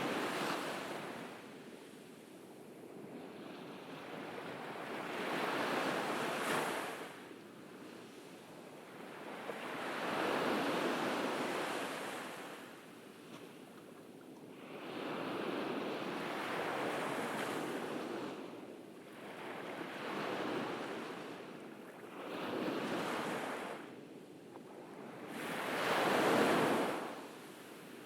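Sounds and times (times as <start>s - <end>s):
ocean waves breaking on beach: 0.0s - 13.8s, 14.4s - 24.0s, 24.7s - 28.0s.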